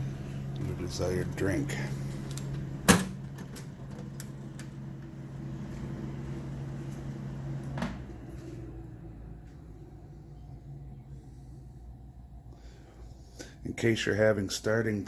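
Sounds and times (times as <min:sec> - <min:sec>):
vending machine humming: 0:00.0 - 0:15.0.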